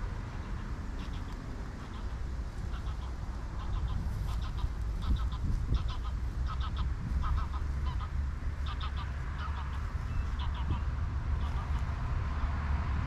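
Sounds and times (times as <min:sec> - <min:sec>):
waterbirds calling: 0:00.0 - 0:12.5
distant road traffic rumble: 0:00.0 - 0:13.0.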